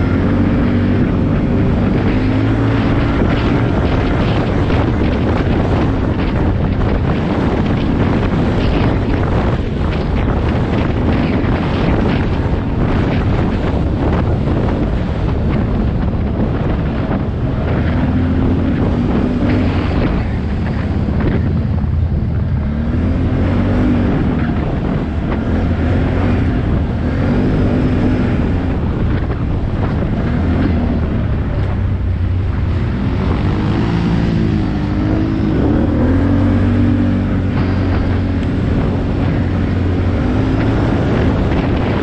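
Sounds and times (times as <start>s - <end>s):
atv engine revving: 0.0s - 42.0s
wind buffeting microphone: 0.0s - 42.0s.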